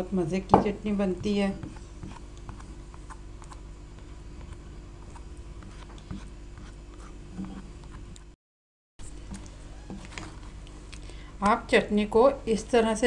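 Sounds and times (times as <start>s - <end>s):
steady low hum: 0.0s - 8.4s, 9.0s - 13.0s.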